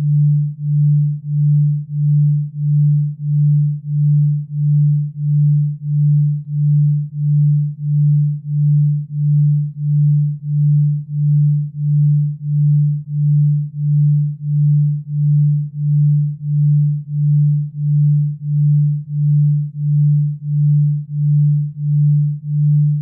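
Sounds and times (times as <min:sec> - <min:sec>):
pulsing low sine tone: 0:00.0 - 0:23.0.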